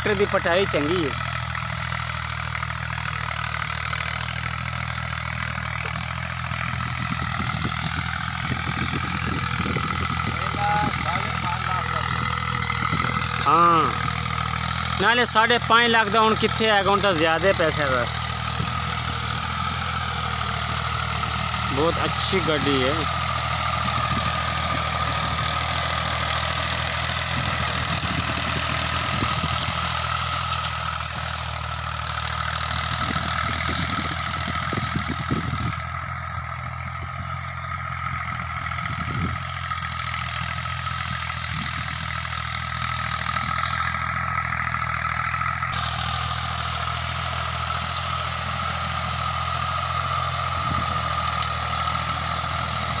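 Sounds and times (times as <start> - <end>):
tractor diesel engine: 0.0 - 53.0.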